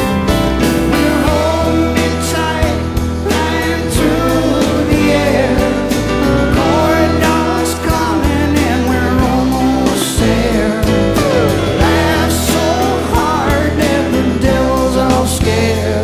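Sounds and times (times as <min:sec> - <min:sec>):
song with singing and drum beat: 0:00.6 - 0:16.0.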